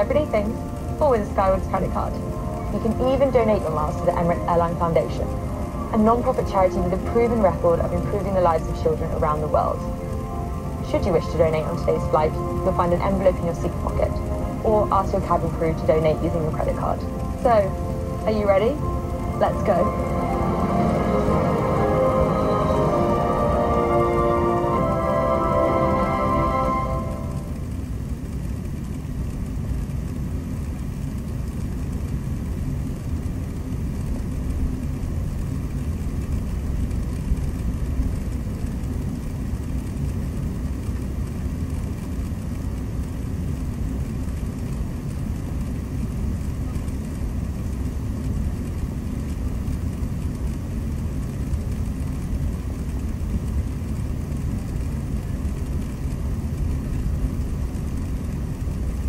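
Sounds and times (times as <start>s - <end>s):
cabin air-conditioning noise: 0.0s - 59.0s
jet engine rumble: 0.0s - 59.0s.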